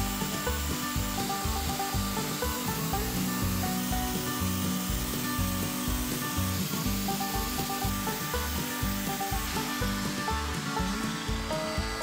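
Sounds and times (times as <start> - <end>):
angle grinder sanding steel: 0.0 - 12.0
background music with low beat: 0.0 - 12.0.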